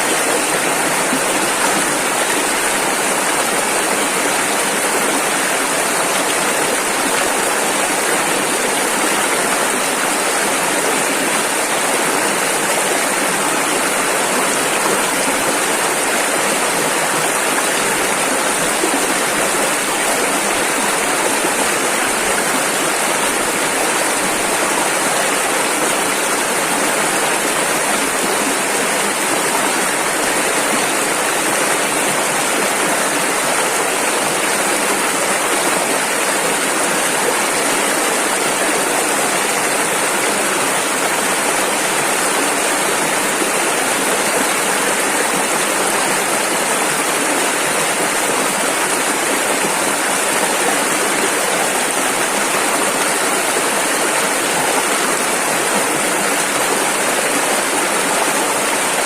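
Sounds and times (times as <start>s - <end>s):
rushing river rapids: 0.0s - 59.0s.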